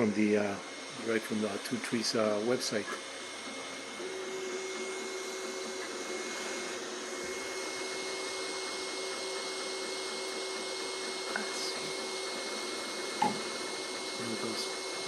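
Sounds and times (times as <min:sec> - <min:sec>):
machine whine: 0:00.0 - 0:15.0
printer fan hiss: 0:00.0 - 0:15.0.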